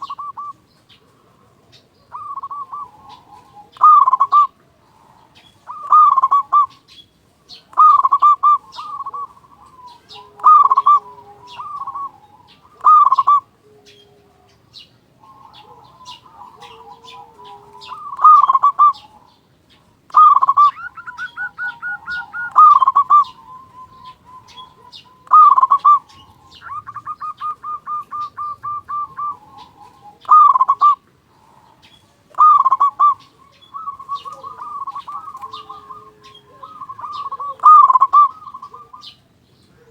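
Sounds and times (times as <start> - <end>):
dove cooing: 0.0 - 39.9
faint high chirping: 0.0 - 39.9.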